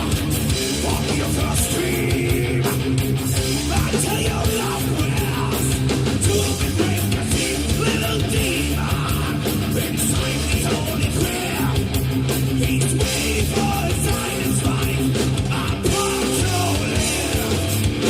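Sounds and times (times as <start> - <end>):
heavy rock band playing: 0.0 - 18.0.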